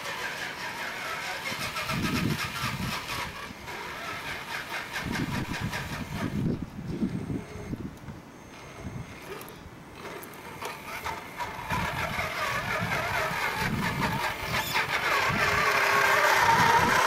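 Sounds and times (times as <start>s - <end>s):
toy truck motor whining: 0.0s - 7.8s, 8.6s - 17.0s.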